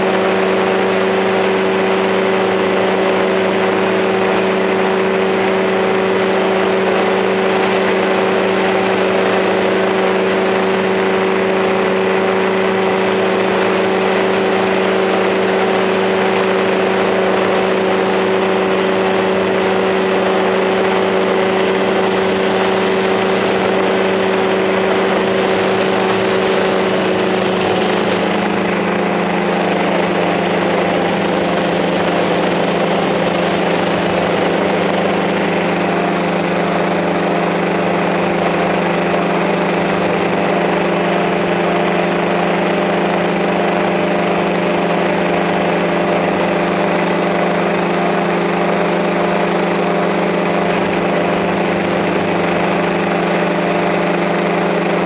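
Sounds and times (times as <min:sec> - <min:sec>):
drone propellers humming: 0:00.0 - 0:55.0.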